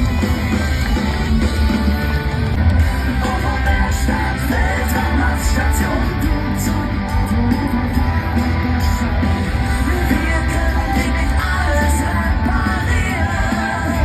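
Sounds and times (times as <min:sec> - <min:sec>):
heavy metal band playing: 0:00.0 - 0:14.0.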